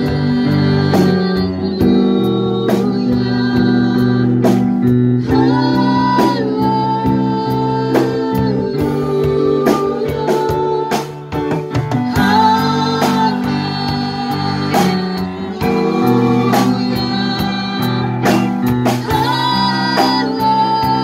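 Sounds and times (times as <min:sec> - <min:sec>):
woman and man singing together: 0:00.0 - 0:11.3, 0:12.0 - 0:21.0
drums: 0:00.0 - 0:21.0
electric bass: 0:00.0 - 0:21.0
piano: 0:00.0 - 0:21.0.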